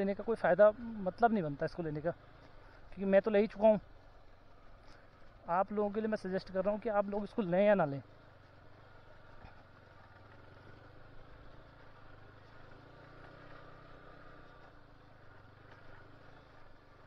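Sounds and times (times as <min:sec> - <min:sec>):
faint motorcycle engine: 0:00.0 - 0:17.0.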